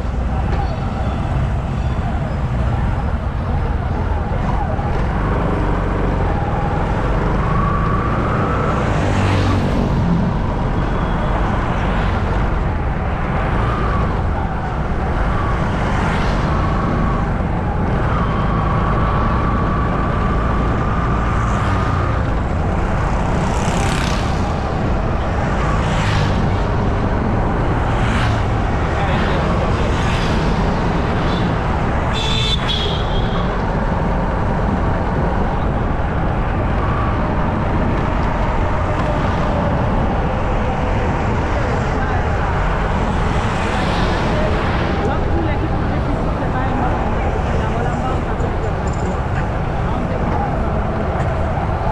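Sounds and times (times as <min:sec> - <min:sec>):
engines rumbling: 0:00.0 - 0:51.9
vehicles passing: 0:00.0 - 0:51.9.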